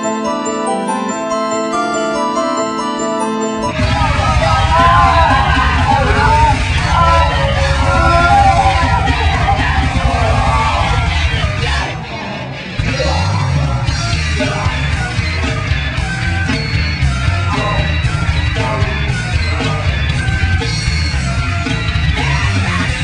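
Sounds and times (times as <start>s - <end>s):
heavy metal music: 0.0s - 23.0s
yelled vocals: 3.6s - 23.0s.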